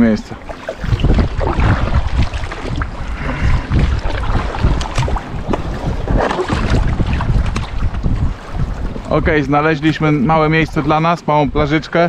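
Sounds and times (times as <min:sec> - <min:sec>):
water splashing around kayak: 0:00.0 - 0:12.0
wind rumbling on microphone: 0:00.0 - 0:12.0.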